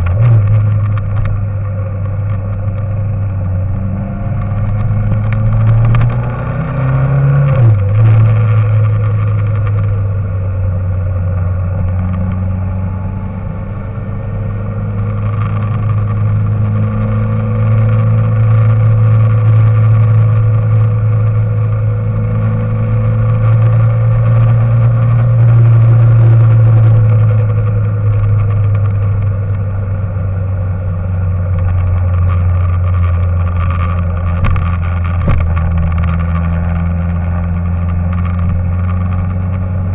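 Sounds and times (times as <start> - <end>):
engine droning: 0.0 - 39.9.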